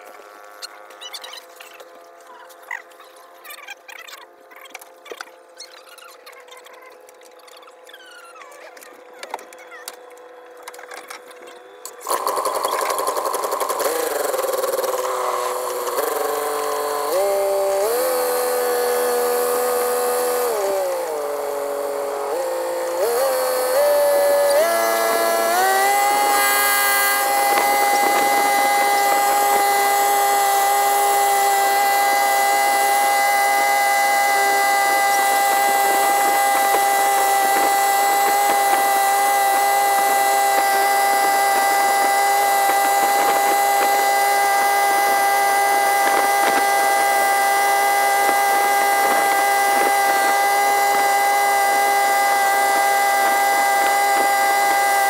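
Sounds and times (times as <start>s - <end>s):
boat engine high whiny drone: 0.0s - 55.0s.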